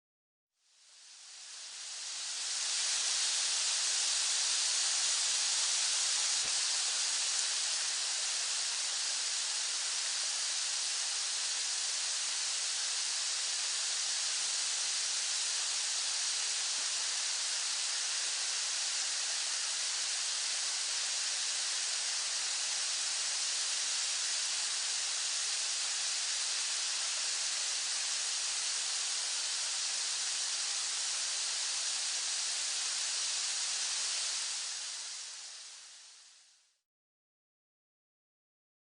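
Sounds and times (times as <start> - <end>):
steady rain hiss: 0.6 - 36.8.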